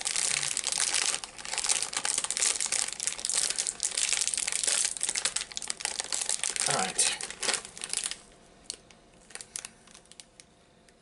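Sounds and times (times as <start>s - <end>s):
plastic snack bag crinkling: 0.0s - 10.5s.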